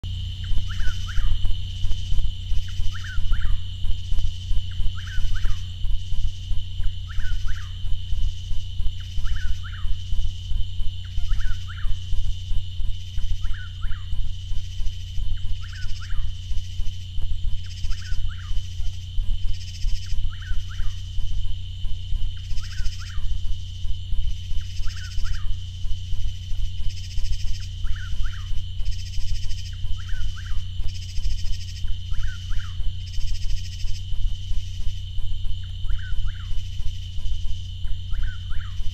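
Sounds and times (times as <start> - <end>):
high-pitched whine: 0.0 - 38.9
steady low hum: 0.0 - 38.9
nightjar bird calling: 0.1 - 38.9.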